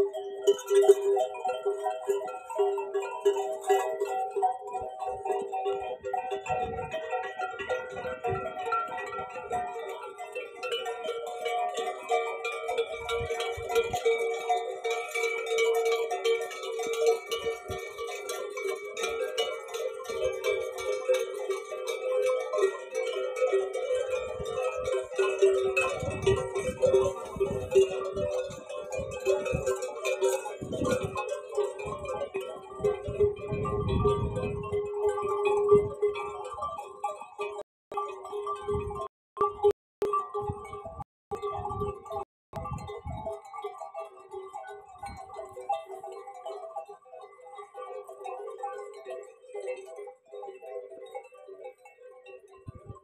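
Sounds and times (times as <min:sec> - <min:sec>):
camel bells clanking: 0:00.0 - 0:53.0.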